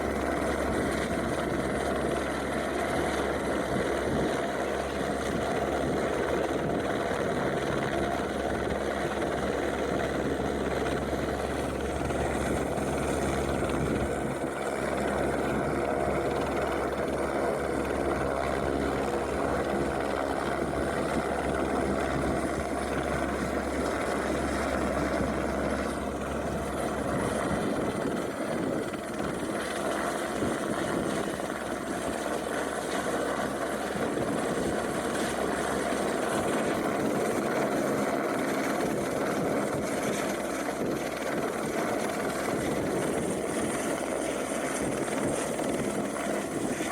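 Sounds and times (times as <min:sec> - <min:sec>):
helicopter hovering: 0:00.0 - 0:46.9.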